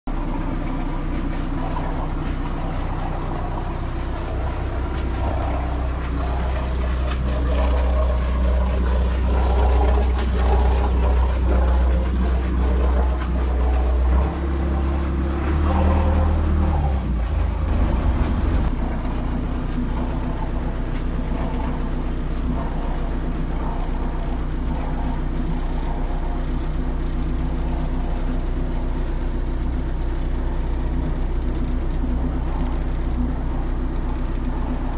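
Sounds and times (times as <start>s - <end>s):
diesel boat engine droning: 0.0s - 34.9s.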